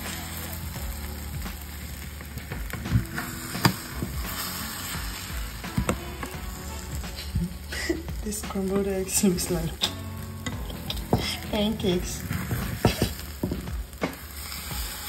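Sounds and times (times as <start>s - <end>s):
eggs sizzling in frying pan: 0.0s - 15.0s
spatula stirring and scraping: 1.6s - 15.0s.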